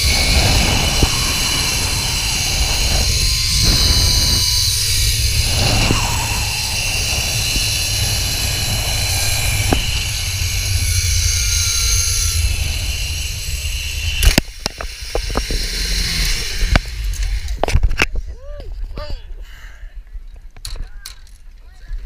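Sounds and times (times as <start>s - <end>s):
zipline trolley whirring on cable: 0.0s - 18.0s
wind rushing over microphone: 0.0s - 19.2s.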